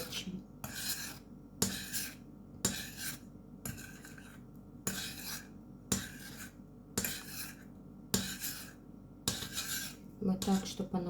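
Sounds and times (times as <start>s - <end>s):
spoon scraping saucepan: 0.0s - 10.9s.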